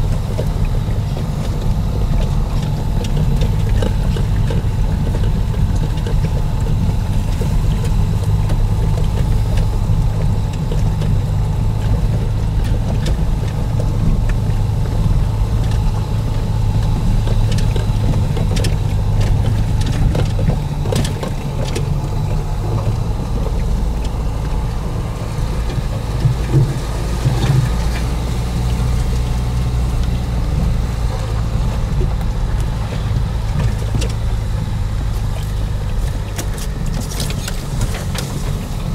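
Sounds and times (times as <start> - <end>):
car engine and road hum: 0.0 - 38.9
clicks and knocks from bumpy ride: 0.0 - 38.9.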